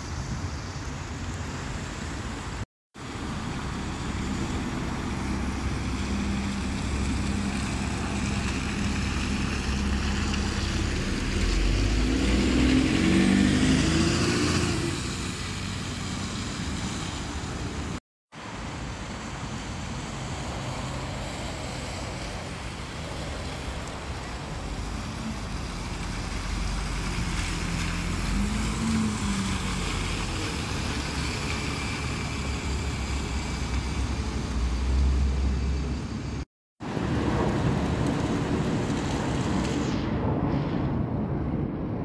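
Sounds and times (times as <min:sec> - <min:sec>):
tyres hissing on wet road: 0:00.0 - 0:41.0
diesel bus engine rumble: 0:03.0 - 0:42.0.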